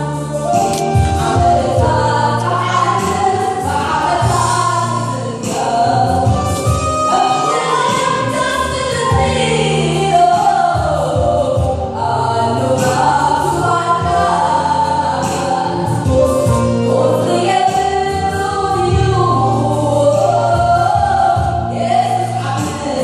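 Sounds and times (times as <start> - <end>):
electronic keyboard low notes: 0.0 - 22.9
backing singers: 0.0 - 23.0
woman singing lead: 0.0 - 23.0.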